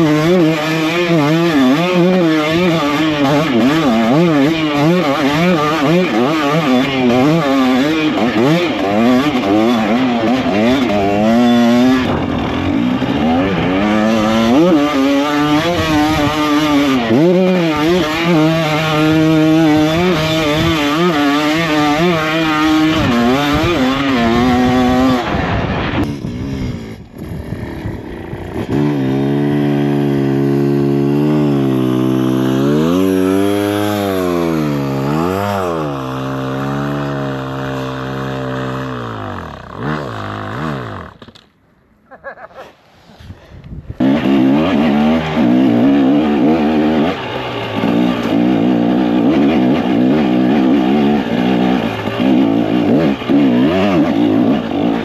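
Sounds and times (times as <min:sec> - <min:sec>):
two-stroke motorcycle engine revving: 0:00.0 - 0:41.6, 0:43.2 - 0:55.0.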